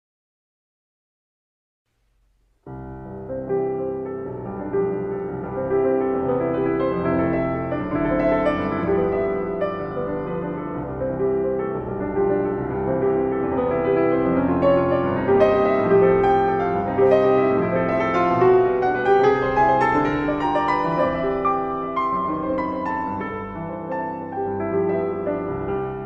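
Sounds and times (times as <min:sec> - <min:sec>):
solo piano playing: 0:02.6 - 0:26.0.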